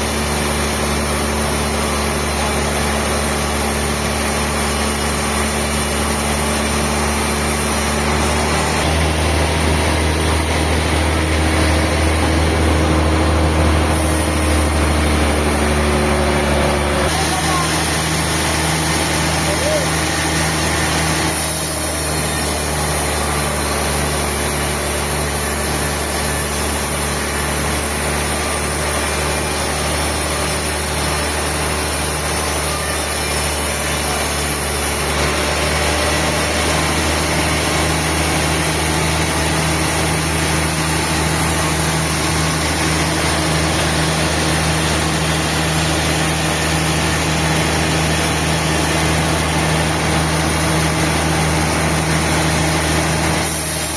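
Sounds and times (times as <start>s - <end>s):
sawmill machinery motor hum: 0.0s - 53.9s.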